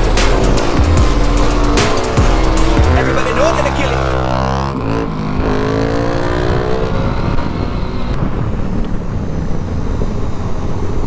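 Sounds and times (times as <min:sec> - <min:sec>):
motorcycle engine revving: 0:00.0 - 0:11.0
wind and road noise: 0:00.0 - 0:11.0.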